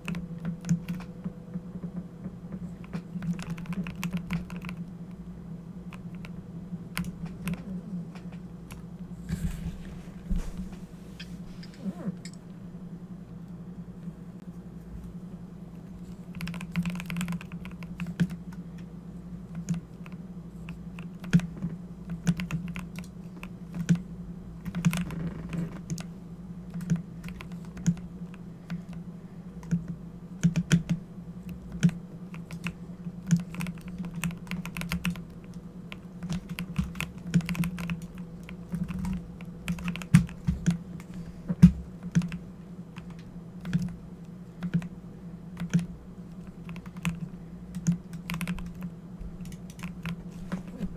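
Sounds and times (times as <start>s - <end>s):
keyboard typing: 0.0s - 5.2s, 5.8s - 8.9s, 16.0s - 24.0s, 24.6s - 50.9s
steady low hum: 0.0s - 50.9s.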